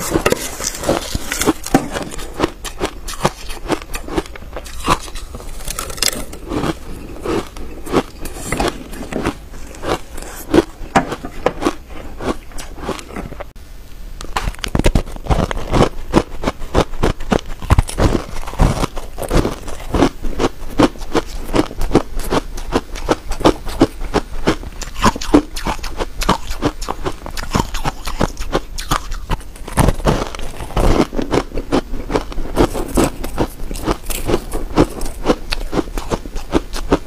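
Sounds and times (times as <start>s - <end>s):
crunching ice: 0.0s - 13.3s, 14.4s - 37.0s.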